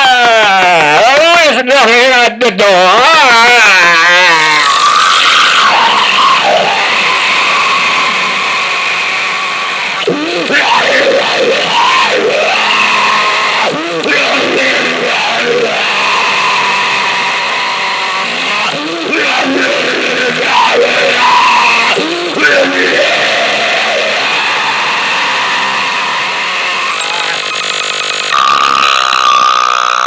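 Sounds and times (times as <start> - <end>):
harsh noise music: 3.3 - 30.0.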